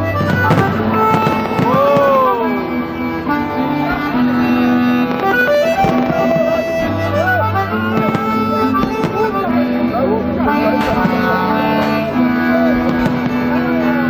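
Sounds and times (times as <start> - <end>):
instrumental music with held notes: 0.0 - 14.0.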